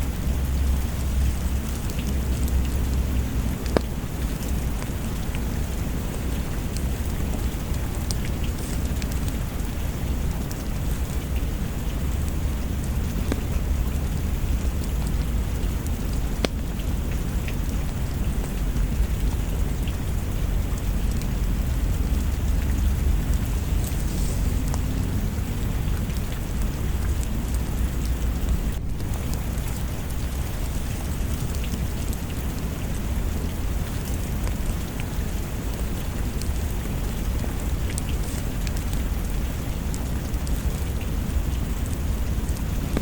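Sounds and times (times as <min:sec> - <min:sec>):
deep low rumble: 0:00.0 - 0:43.0
small ticks and crackles: 0:00.0 - 0:43.0
steady rain: 0:00.0 - 0:43.0.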